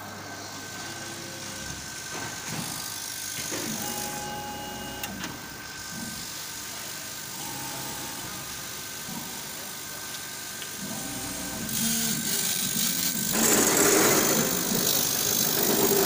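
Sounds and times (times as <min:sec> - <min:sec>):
laser cutter humming: 0:00.0 - 0:16.0.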